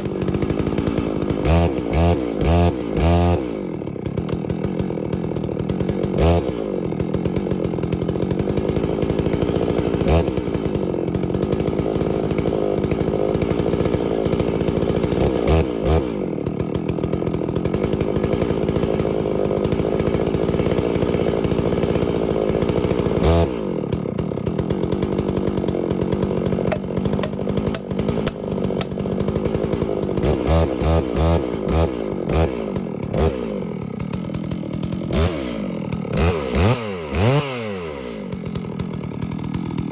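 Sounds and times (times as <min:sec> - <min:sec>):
chainsaw running at high revs: 0:00.0 - 0:39.9
chainsaw throttle blips: 0:00.0 - 0:39.9.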